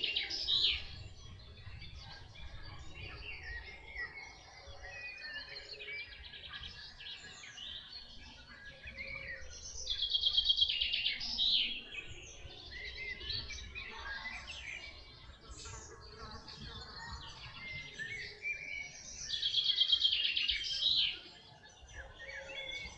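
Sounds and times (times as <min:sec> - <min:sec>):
songbirds singing: 0:00.0 - 0:22.9.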